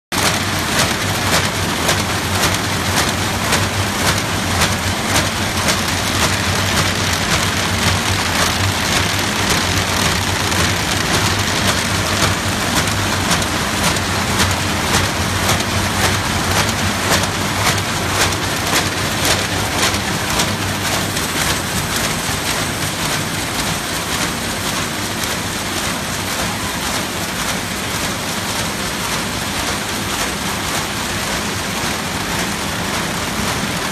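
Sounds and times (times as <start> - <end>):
machine clattering: 0.2 - 33.9.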